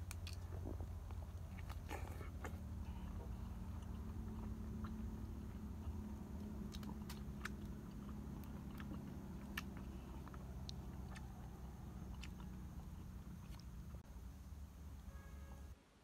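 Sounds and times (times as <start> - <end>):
wet mouth clicks chewing: 0.0 - 14.0
steady low rumble: 0.0 - 15.1.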